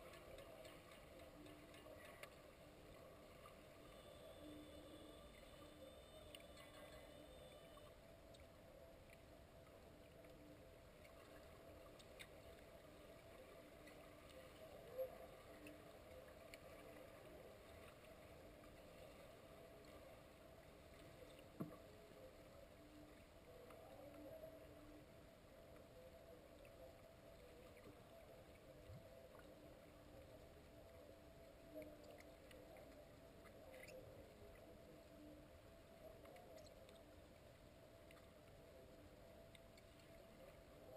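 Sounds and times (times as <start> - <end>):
muffled underwater hum: 0.0 - 40.9.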